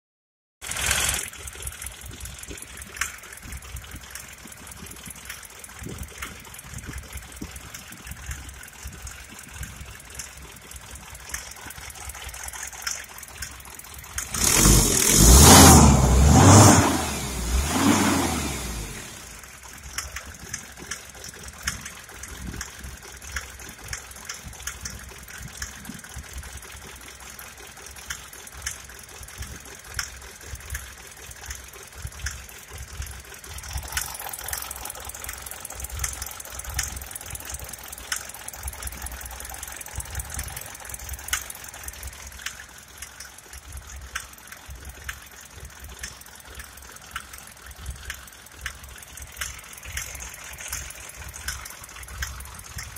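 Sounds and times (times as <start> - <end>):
diesel engine revving and idling: 0.6 - 7.6, 10.5 - 45.2, 45.8 - 52.9.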